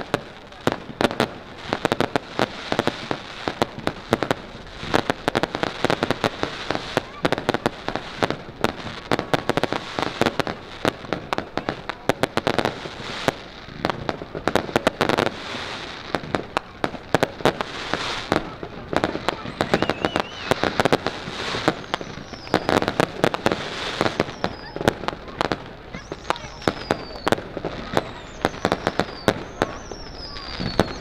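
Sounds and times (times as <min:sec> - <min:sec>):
fireworks popping and crackling: 0:00.0 - 0:31.0.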